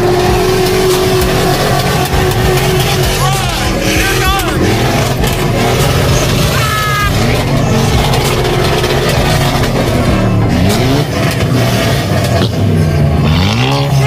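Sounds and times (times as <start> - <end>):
car engine revving: 0.0 - 14.0
exhaust pops: 0.0 - 14.0.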